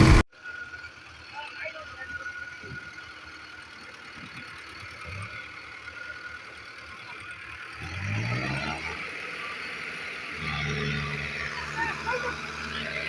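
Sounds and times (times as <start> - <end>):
diesel tractor engine revving: 0.0 - 13.0.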